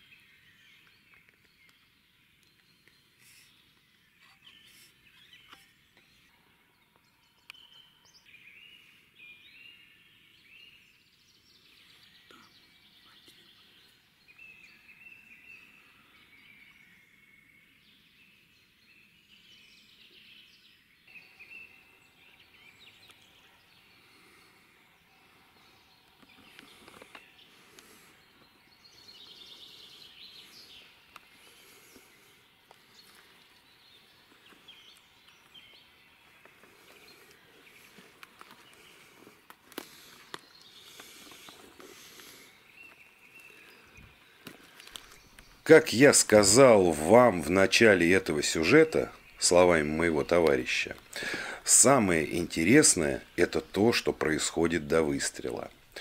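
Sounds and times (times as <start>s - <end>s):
songbirds warbling and chirping: 0.0s - 56.0s.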